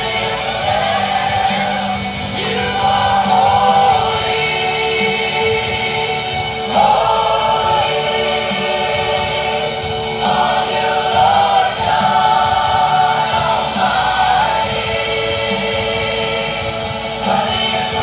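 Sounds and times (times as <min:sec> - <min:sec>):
choir singing long notes: 0:00.0 - 0:18.0.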